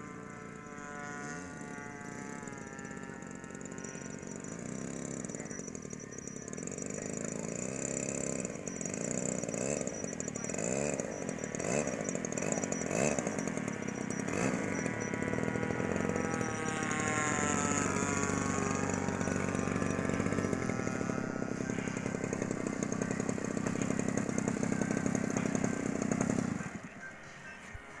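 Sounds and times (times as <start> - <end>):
model airplane engine buzzing: 0.0 - 28.0.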